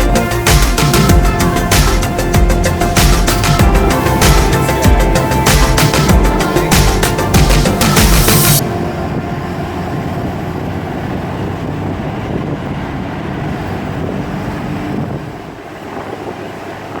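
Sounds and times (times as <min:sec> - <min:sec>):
car road engine and wind noise: 0:00.0 - 0:17.0.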